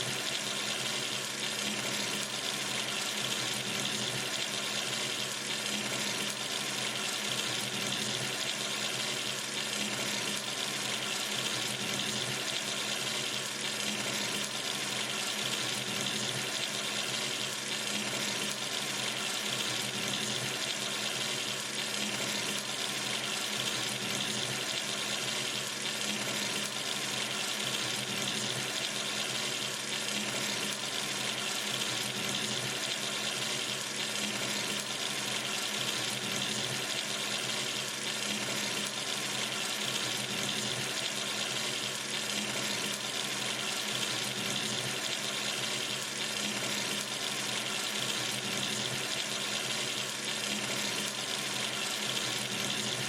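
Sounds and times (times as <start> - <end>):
tap water running into sink: 0.0 - 53.0.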